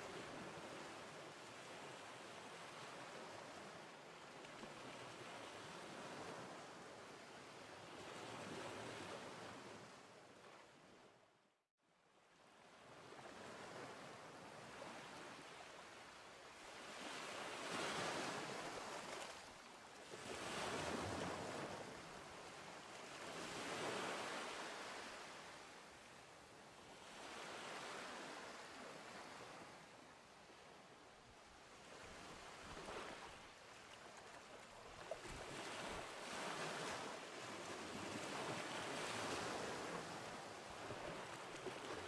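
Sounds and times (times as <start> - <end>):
small waves breaking on beach: 0.0 - 11.2, 12.3 - 42.0.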